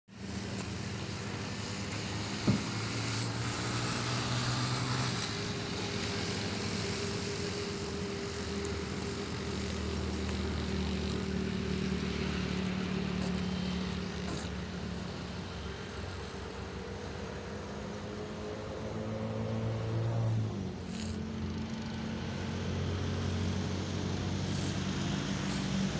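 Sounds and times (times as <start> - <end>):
outdoor noise: 0.0 - 25.9
engine humming: 0.1 - 25.9.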